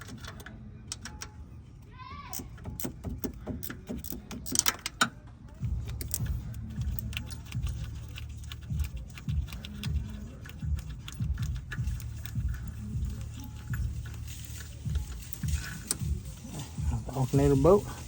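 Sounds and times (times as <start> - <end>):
hand ratchet clicking: 2.3 - 5.1, 5.7 - 18.0.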